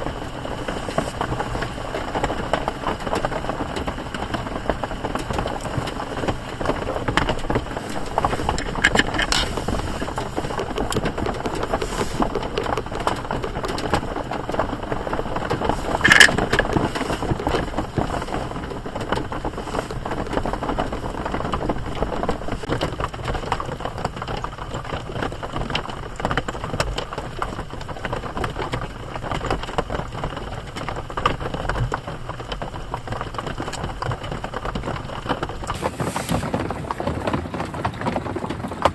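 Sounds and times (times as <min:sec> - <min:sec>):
rain pattering on a tarp: 0:00.0 - 0:38.9.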